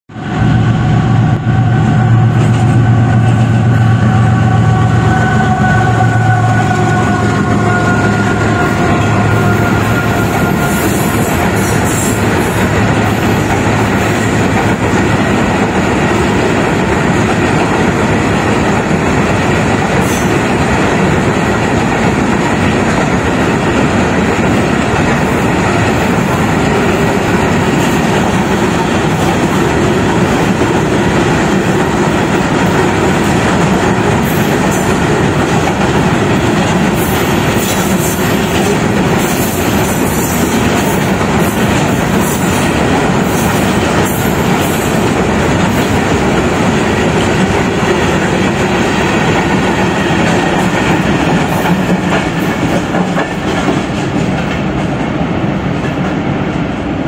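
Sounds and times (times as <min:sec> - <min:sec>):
train wheels rumbling on rails: 0:00.1 - 0:57.0.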